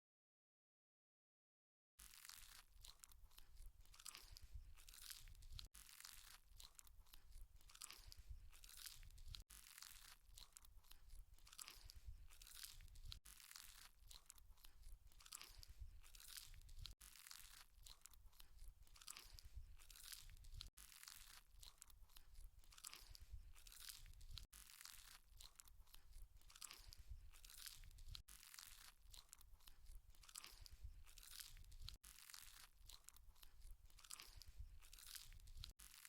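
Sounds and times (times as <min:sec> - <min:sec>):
chewing and crunching: 0:02.0 - 0:36.0.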